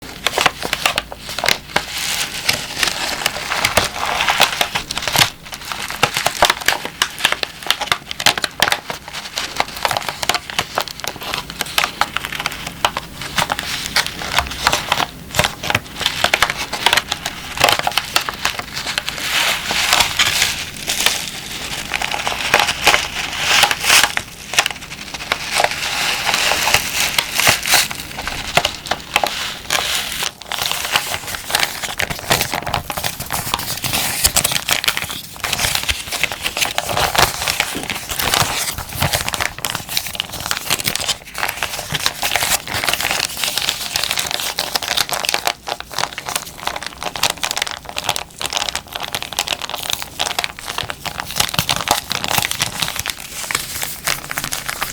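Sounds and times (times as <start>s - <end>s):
packaging crumpling: 0.0s - 54.9s.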